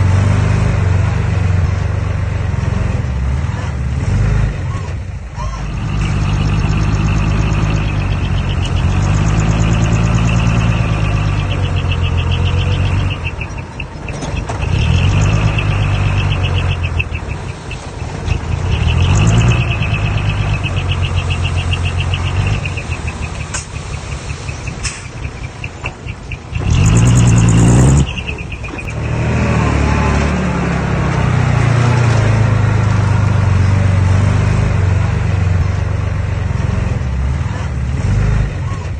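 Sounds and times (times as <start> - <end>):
diesel engine working: 0.0 - 38.9.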